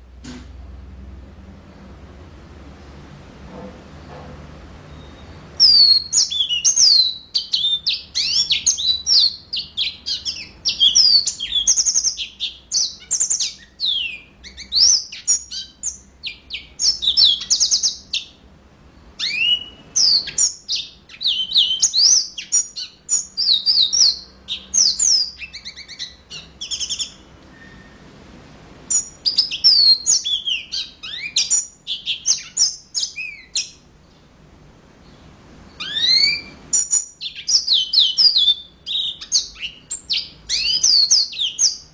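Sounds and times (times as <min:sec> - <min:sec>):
canary singing: 0:04.8 - 0:28.2, 0:28.8 - 0:34.2, 0:35.0 - 0:41.9.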